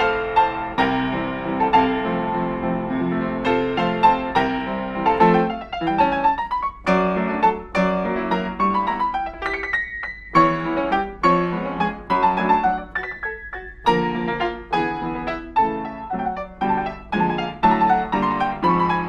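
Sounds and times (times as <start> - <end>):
solo piano melody: 0.0 - 19.0.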